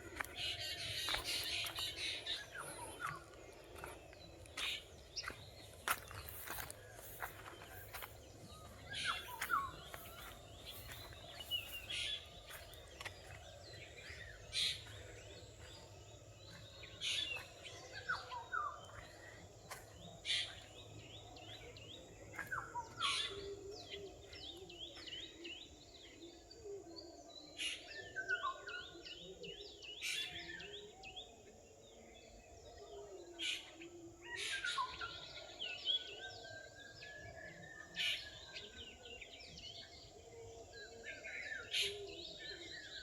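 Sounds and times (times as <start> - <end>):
forest birds chirping: 0.0 - 43.0.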